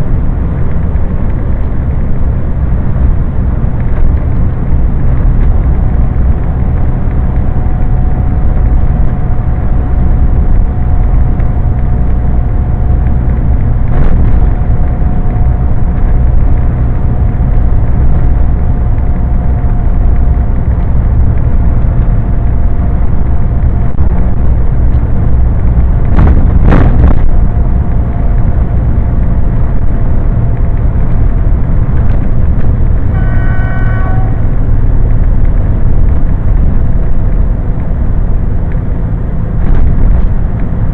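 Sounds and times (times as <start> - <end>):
faint steady whine: 0.0 - 40.9
truck engine rumble in cab: 0.0 - 40.9.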